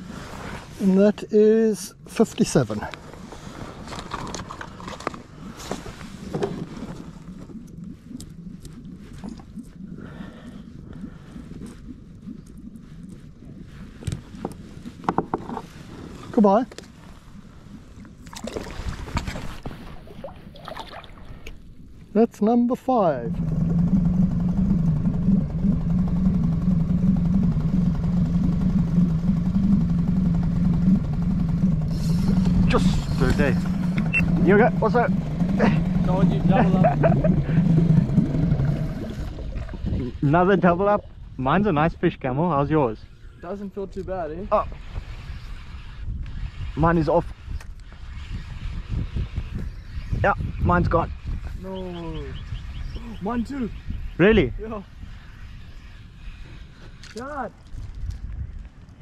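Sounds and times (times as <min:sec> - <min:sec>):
outboard motor running: 0:00.0 - 0:50.3.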